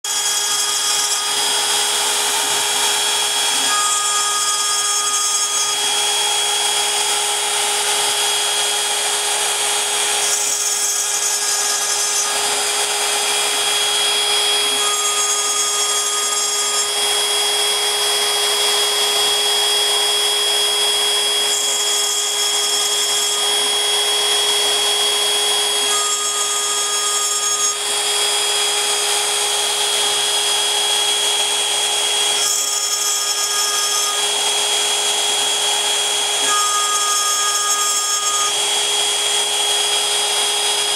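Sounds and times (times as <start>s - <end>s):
router bit cutting: 0.0s - 40.9s
router spindle high whine: 0.0s - 40.9s.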